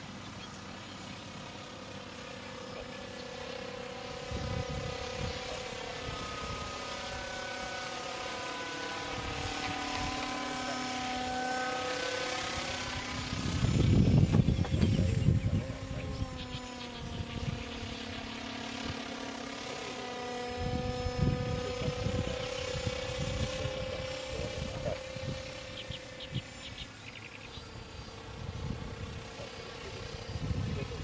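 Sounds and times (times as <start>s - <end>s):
model aircraft motor buzzing: 0.0s - 31.0s.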